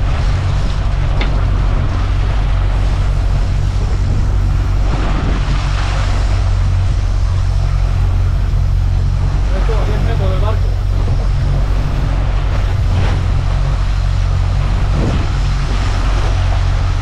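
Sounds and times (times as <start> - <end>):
motorboat engine droning: 0.0 - 17.0
water noise: 0.0 - 17.0
wind noise: 0.0 - 17.0.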